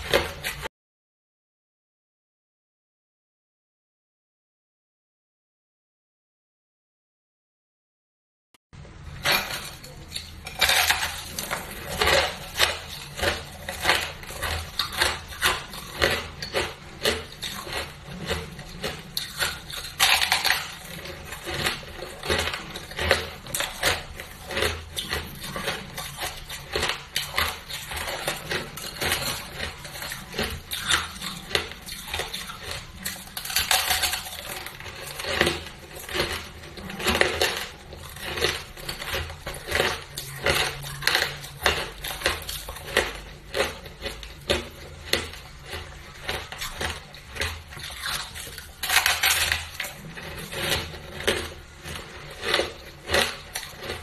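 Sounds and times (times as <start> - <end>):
crunching ice chewing: 0.0 - 0.7, 9.1 - 54.0.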